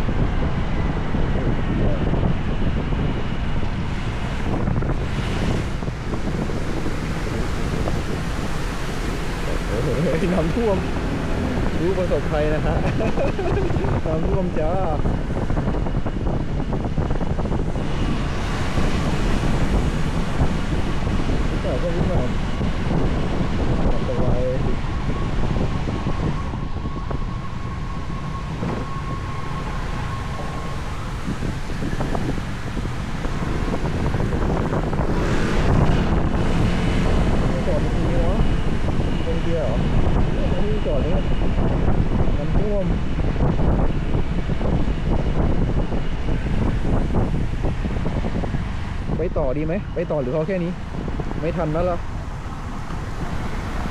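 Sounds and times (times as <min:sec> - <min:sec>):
thin steady whine: 0:00.0 - 0:53.9
wind buffeting microphone: 0:00.0 - 0:53.9.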